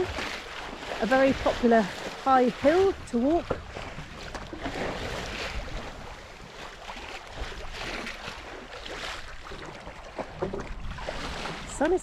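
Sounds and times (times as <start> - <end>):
water washing along hull: 0.0 - 12.0
wind rumbling on microphone: 0.0 - 12.0.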